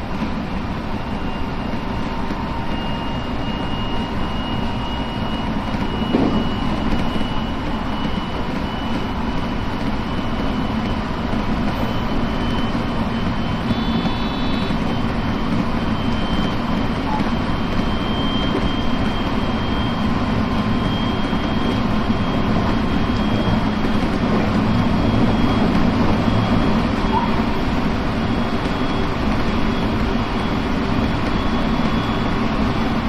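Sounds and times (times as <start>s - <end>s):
train wheels rumbling on rail: 0.0s - 33.0s
high whine: 0.8s - 33.0s.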